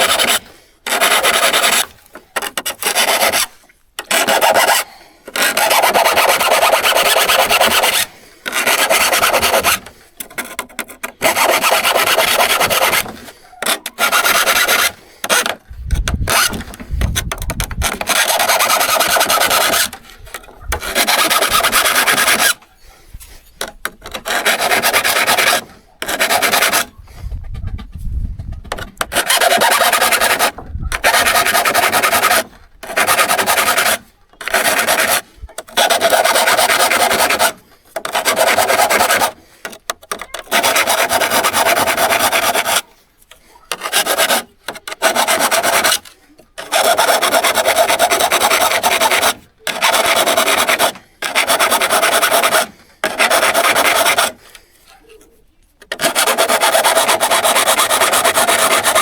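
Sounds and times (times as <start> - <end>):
rasping strokes on hand saw: 0.0 - 59.0.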